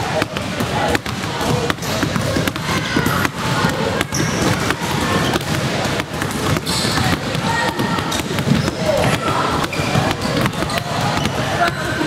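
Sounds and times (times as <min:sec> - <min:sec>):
basketballs bouncing on wooden floor: 0:00.0 - 0:12.0.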